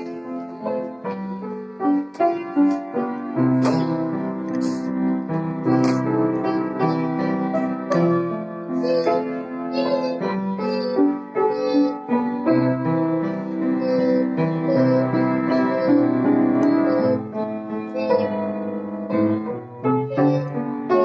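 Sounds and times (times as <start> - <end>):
solo piano hymn chords: 0.0 - 21.0.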